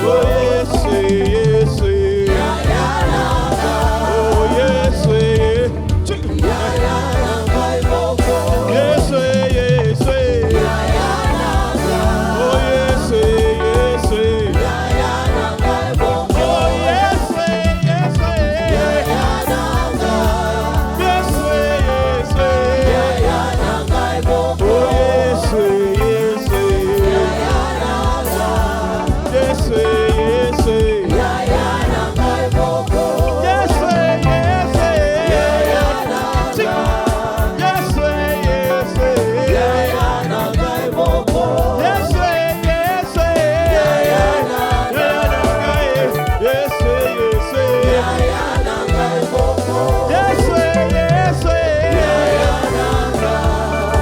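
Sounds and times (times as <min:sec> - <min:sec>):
live band with strong bass: 0:00.0 - 0:54.0
worship team singing: 0:00.0 - 0:54.0.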